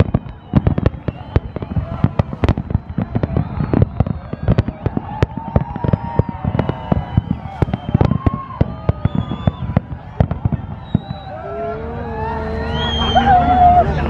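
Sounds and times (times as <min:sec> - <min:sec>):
firework shells bursting: 0:00.0 - 0:11.3.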